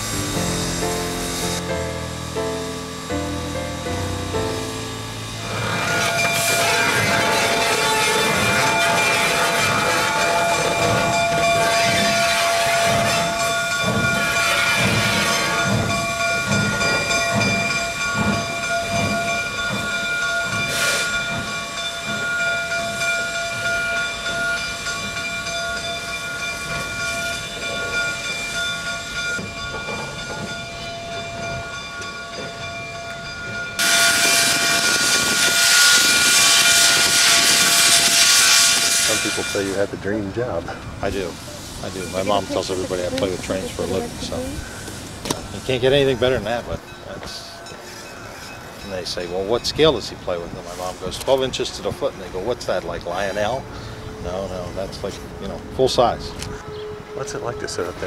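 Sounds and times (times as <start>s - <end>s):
loud steam hiss: 0.0s - 30.1s, 33.8s - 46.9s, 47.9s - 55.2s
steady steam hiss: 0.0s - 32.7s, 33.7s - 56.1s
steam locomotive exhaust beats: 0.0s - 58.0s.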